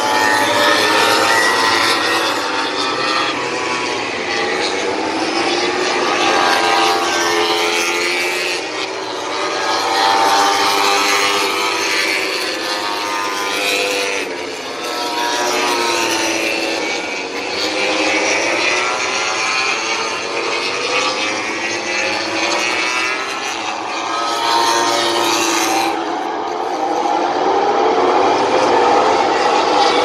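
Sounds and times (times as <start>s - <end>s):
racing motorcycles passing: 0.0s - 30.0s.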